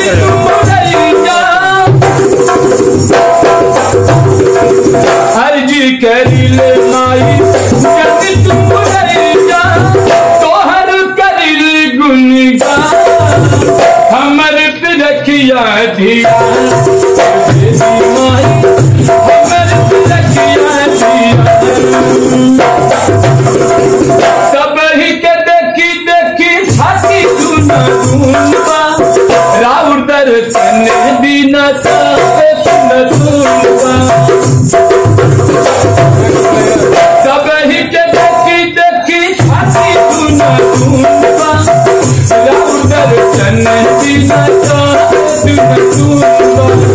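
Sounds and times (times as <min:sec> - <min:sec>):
dholak drum beat: 0:00.0 - 0:46.9.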